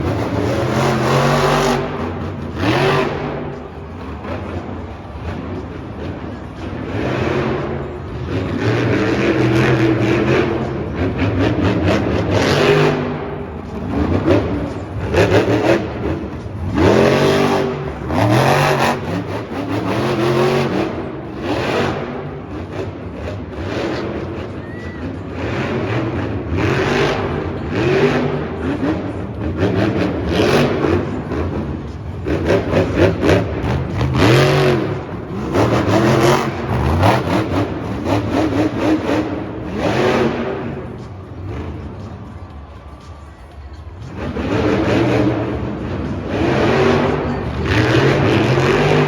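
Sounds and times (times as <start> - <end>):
truck engine revving: 0.0 - 43.2, 43.9 - 49.0.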